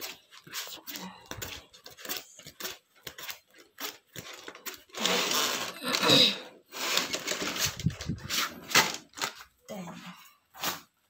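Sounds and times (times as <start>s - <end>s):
plastic sheets rustling and scraping: 0.0s - 9.6s, 10.2s - 11.0s.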